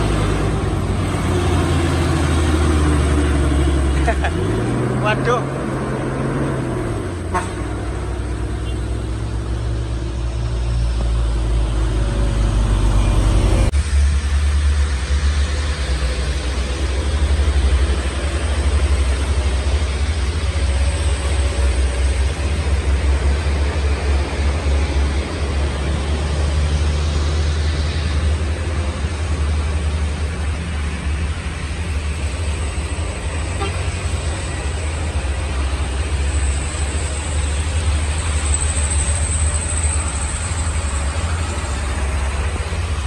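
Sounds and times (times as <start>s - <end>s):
truck diesel engine rumbling: 0.0s - 43.0s.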